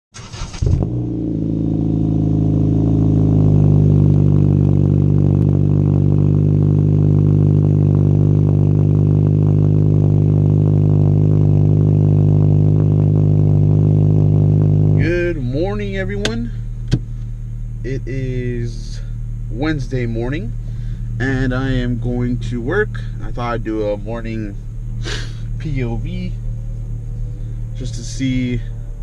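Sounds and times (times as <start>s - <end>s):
car engine starting and idling: 0.1s - 29.0s.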